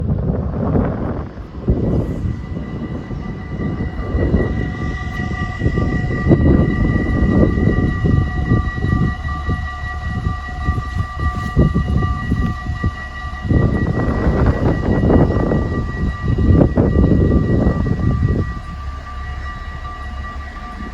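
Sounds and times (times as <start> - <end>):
wind on microphone: 0.0 - 20.9
level crossing warning bells: 0.1 - 20.9.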